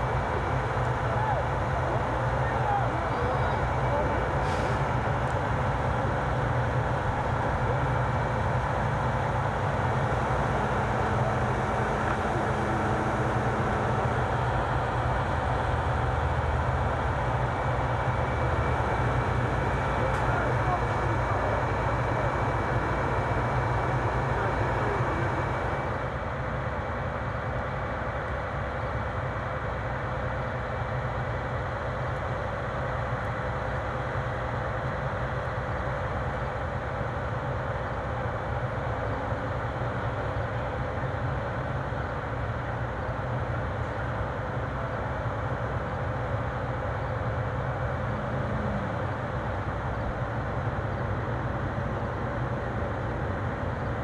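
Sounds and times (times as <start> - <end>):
diesel trucks rumbling: 0.0 - 54.0.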